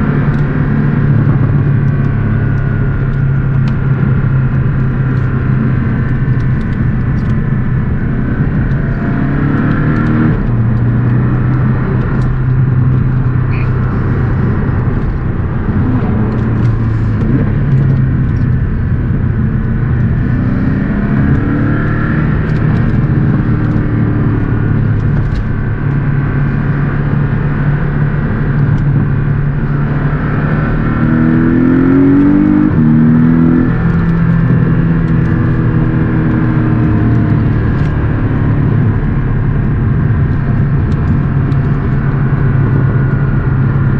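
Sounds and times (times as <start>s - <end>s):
car engine accelerating: 0.0s - 43.9s.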